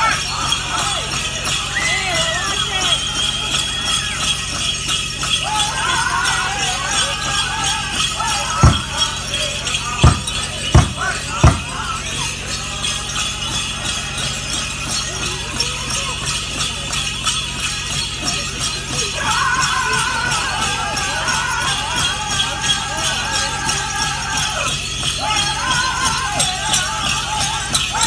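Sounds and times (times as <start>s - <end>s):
group singing: 0.0s - 4.6s, 5.2s - 16.0s, 19.0s - 28.0s
hard drum beats: 0.0s - 28.0s
leg bells jingling: 0.0s - 28.0s.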